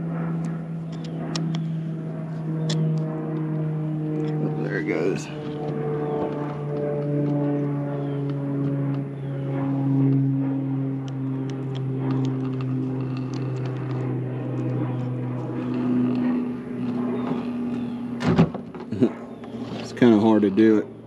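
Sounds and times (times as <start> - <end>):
motor drone: 0.0 - 21.0.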